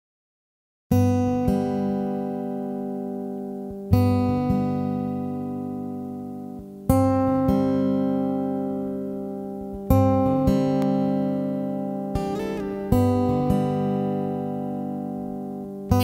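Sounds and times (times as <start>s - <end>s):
acoustic guitar strumming chords: 0.9s - 16.0s.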